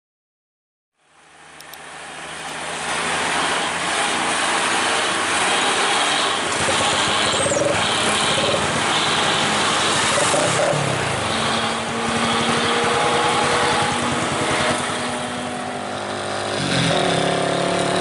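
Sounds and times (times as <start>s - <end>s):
road noise: 0.9s - 18.0s
truck engine running: 1.1s - 18.0s.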